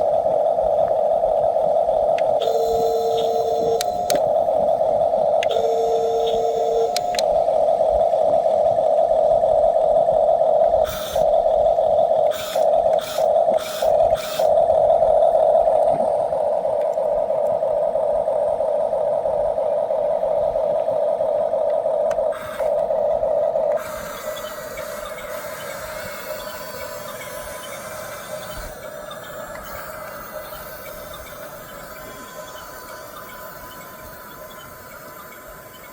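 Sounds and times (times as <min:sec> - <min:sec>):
electric motors whining: 0:00.0 - 0:08.9, 0:10.6 - 0:17.6, 0:21.6 - 0:35.9.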